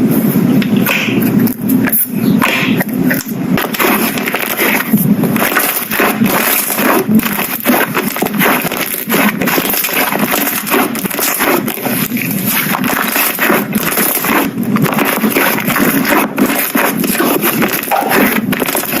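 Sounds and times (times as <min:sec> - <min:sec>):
slime squishing and popping: 0:00.8 - 0:19.0.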